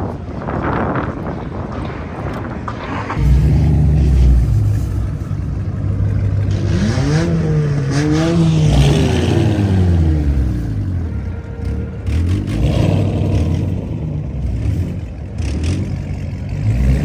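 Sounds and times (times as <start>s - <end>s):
car engines running hard: 0.0s - 17.0s
engine revving: 1.7s - 17.0s.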